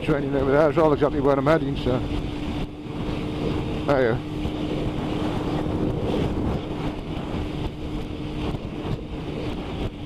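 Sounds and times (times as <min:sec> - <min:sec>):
motorcycle engine drone: 0:00.0 - 0:10.0
wind buffeting microphone: 0:00.0 - 0:10.0.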